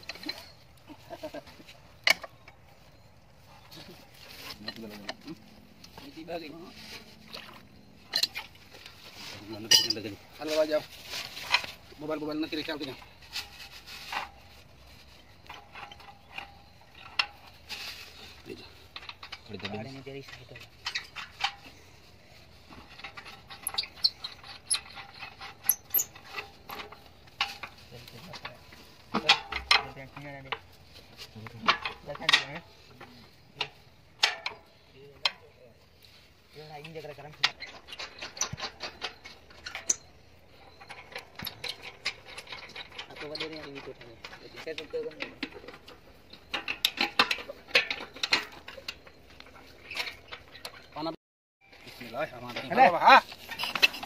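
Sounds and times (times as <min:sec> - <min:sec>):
metal clatter: 0:00.0 - 0:54.0.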